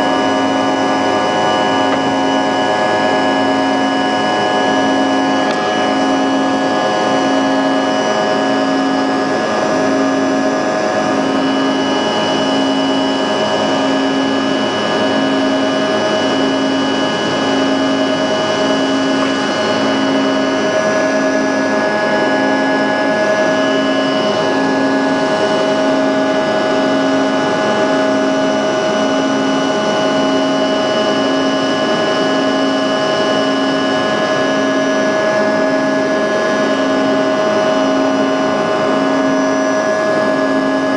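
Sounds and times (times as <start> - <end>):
jet airliner engines roaring: 0.0 - 40.9.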